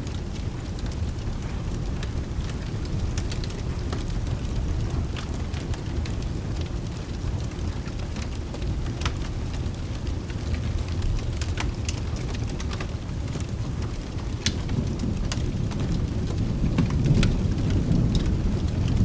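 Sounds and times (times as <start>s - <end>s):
low steady rumble: 0.0s - 19.0s
rain hissing: 0.0s - 19.0s
wood fire crackling and popping: 0.0s - 19.0s.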